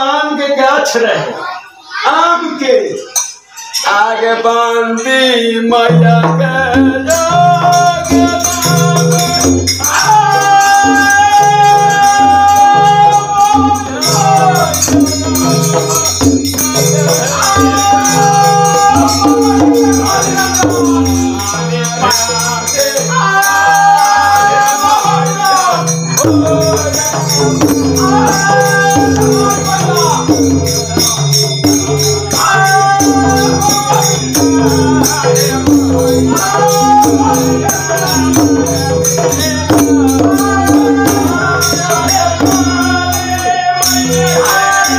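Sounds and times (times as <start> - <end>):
devotional singing: 0.0 - 44.9
brass hand cymbals jingling: 1.6 - 44.9
hand drum beating: 6.0 - 44.9.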